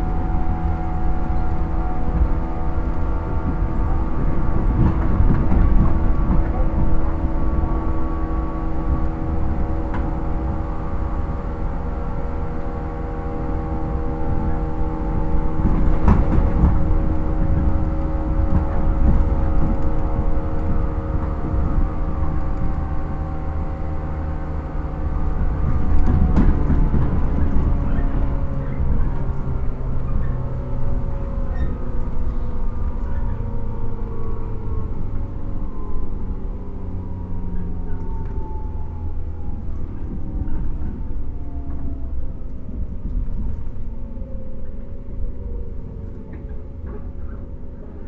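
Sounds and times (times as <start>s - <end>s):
train traction motor whine: 0.0s - 48.0s
wheels rumbling on rail: 0.0s - 48.0s.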